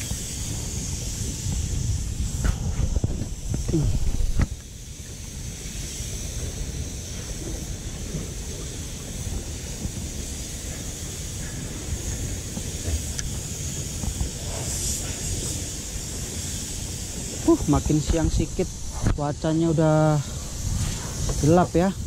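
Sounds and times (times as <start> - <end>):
choppy sea water hiss: 0.0 - 22.0
wind rumbling on microphone: 0.0 - 22.0.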